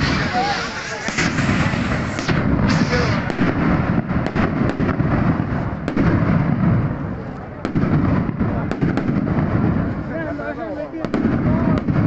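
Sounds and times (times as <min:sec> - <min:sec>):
sharp firework cracks: 0:00.0 - 0:07.0, 0:07.6 - 0:10.0, 0:11.0 - 0:12.0
fireworks bangs and crackles: 0:00.0 - 0:12.0.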